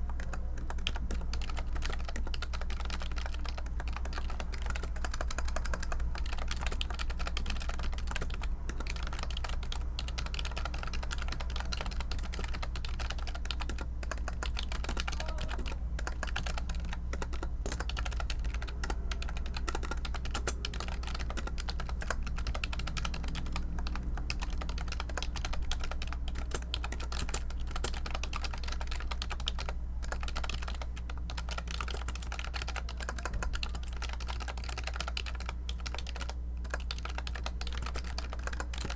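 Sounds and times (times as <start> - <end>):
fast typing on keyboard: 0.0 - 38.9
steady low hum: 0.0 - 38.9.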